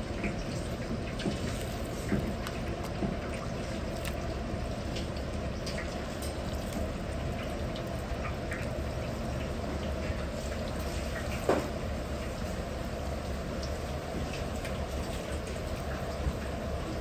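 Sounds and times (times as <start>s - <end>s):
oil sizzling and popping: 0.0s - 16.7s
kitchen range roaring: 0.0s - 17.0s.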